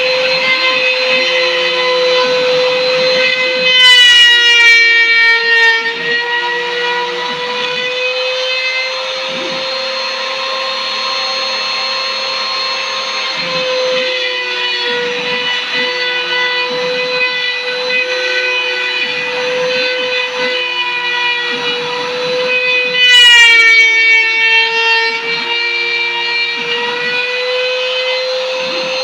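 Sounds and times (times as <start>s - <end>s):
cnc spindle whine: 0.0s - 29.0s
high whine sweeping downward: 0.0s - 29.0s
motor tones switching on and off: 0.0s - 29.0s.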